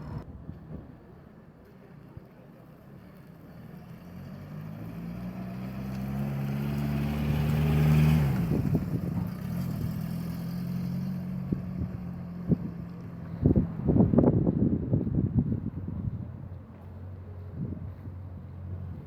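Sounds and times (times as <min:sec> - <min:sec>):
vehicle engine passing by: 0:03.2 - 0:19.0.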